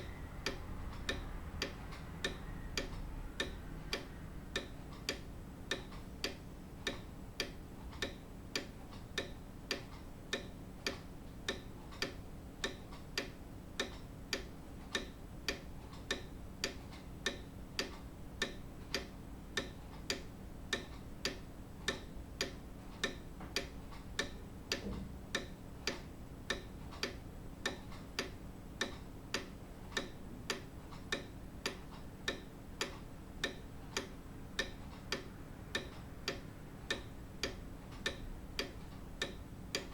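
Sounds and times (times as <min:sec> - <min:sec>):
faint low hum: 0:00.0 - 0:39.9
grandfather clock ticking: 0:00.0 - 0:39.9.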